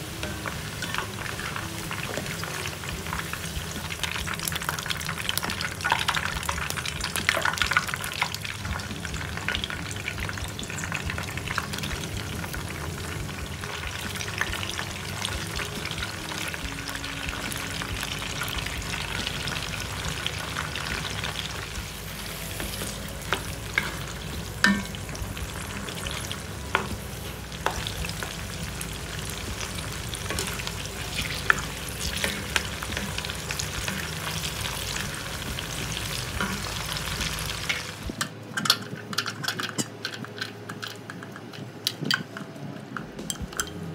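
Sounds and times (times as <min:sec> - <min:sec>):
oil sizzling in a wok: 0:00.0 - 0:38.2.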